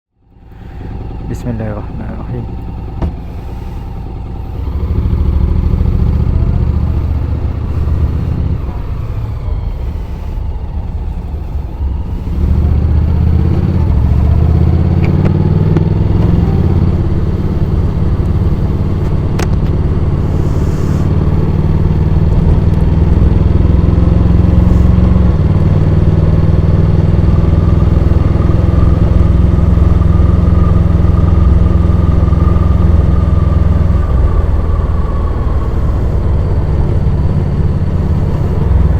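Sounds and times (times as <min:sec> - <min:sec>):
motorcycle engine while riding: 0:00.1 - 0:38.9.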